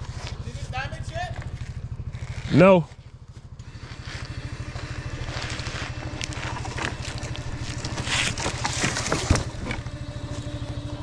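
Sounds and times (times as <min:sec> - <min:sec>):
utility vehicle engine idling: 0:00.0 - 0:11.0.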